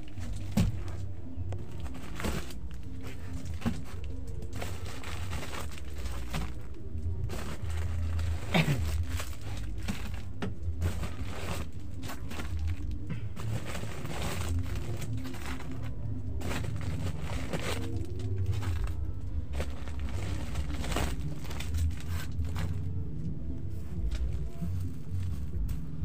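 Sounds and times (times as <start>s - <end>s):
plastic packs rustling and crinkling: 0.0s - 26.0s.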